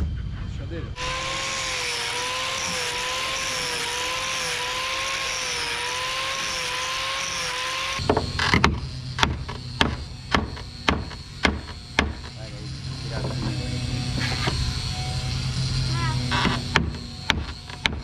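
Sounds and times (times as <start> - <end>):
electric sander on wood: 1.0 - 18.0.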